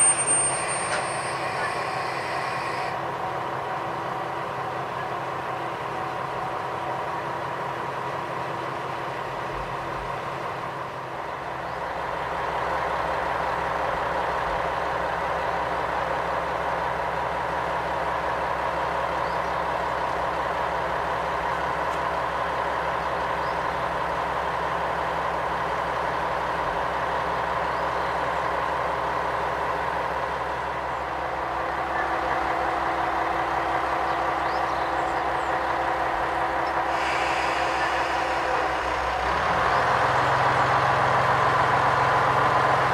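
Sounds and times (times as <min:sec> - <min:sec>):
railcar diesel engine idling: 0:00.0 - 0:42.9.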